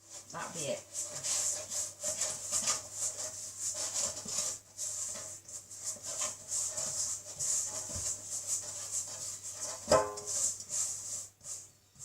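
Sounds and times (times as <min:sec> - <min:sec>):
spoon scraping paste in bowl: 0:00.7 - 0:12.0.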